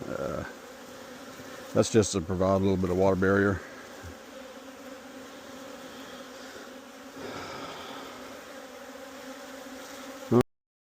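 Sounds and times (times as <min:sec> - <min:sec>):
bees buzzing: 0:00.0 - 0:10.4.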